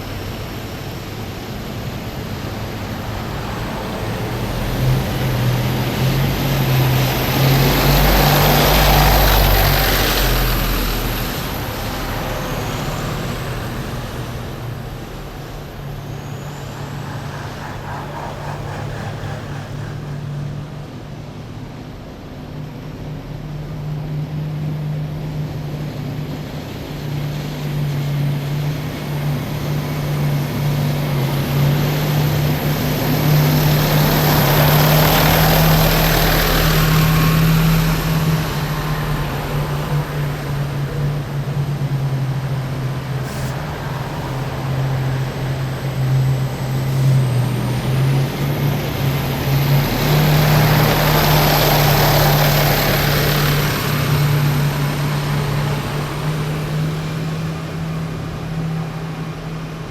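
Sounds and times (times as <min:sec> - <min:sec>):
heavy military vehicles driving past: 0:00.0 - 0:21.9, 0:28.0 - 0:59.9.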